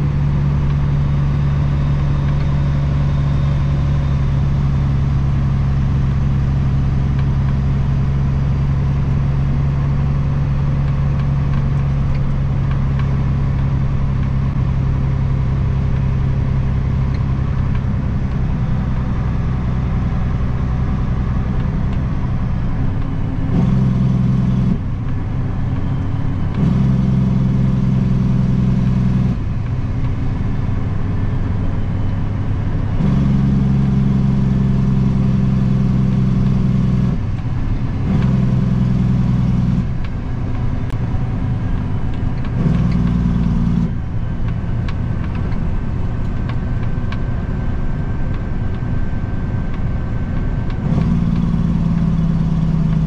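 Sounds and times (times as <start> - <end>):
truck diesel engine while driving: 0.0 - 53.0.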